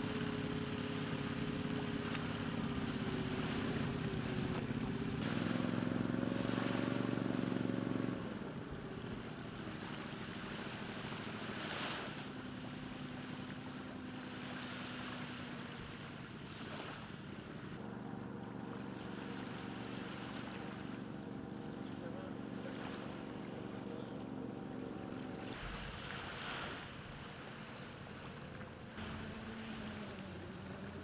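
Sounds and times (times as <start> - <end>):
boat engine running: 0.0 - 31.0
water noise: 0.0 - 31.0.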